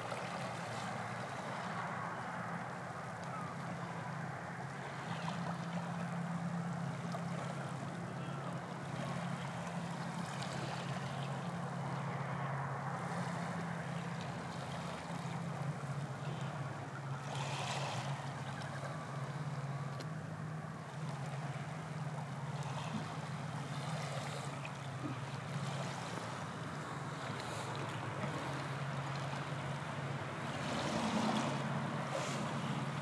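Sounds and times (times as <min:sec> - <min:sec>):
boat engines droning: 0:00.0 - 0:33.0.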